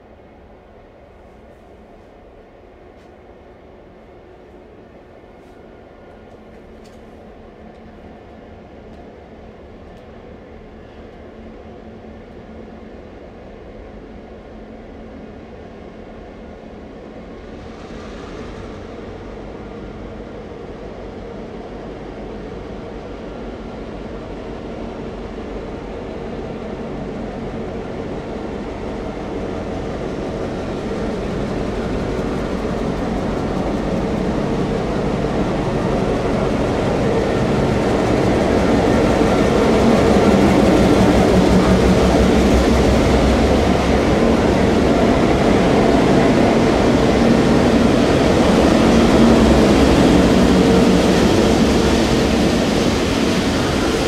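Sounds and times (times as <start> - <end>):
diesel locomotives pulling under power: 0.0 - 54.0.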